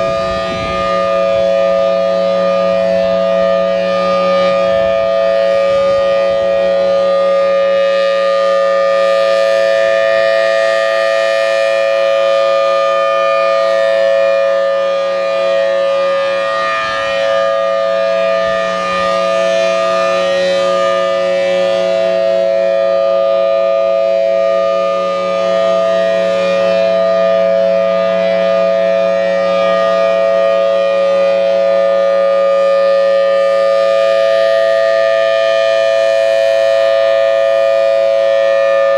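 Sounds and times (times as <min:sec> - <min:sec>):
dual-tone rotating siren: 0:00.0 - 0:38.9.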